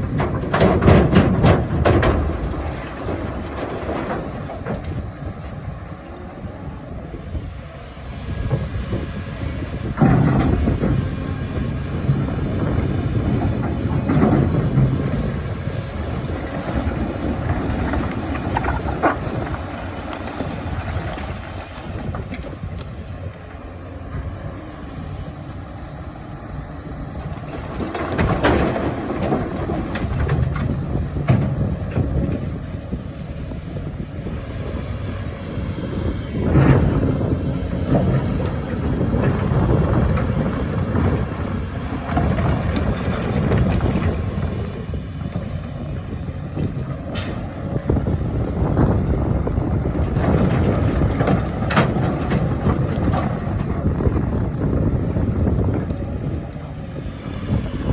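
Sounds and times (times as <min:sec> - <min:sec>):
diesel engine rumble: 0:00.0 - 0:57.9.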